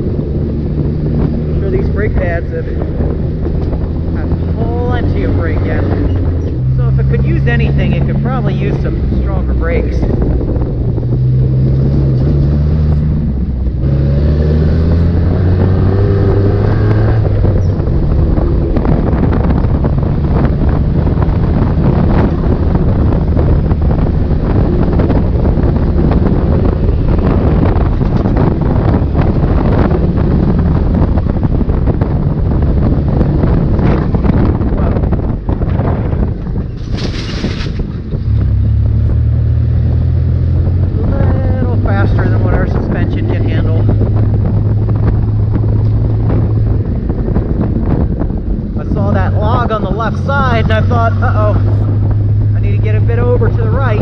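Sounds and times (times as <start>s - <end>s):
dune buggy engine: 0.0s - 54.0s
wind buffeting microphone: 0.0s - 54.0s.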